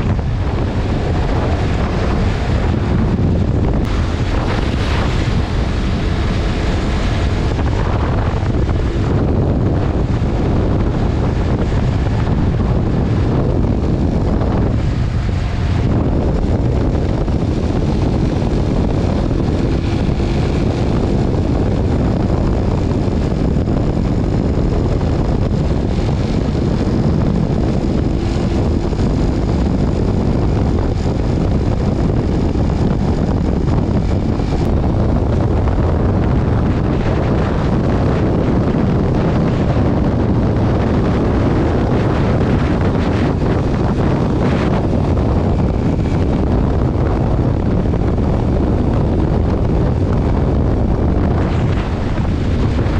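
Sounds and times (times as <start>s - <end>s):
motorcycle engine drone: 0.0s - 52.9s
wind noise on microphone: 0.0s - 52.9s.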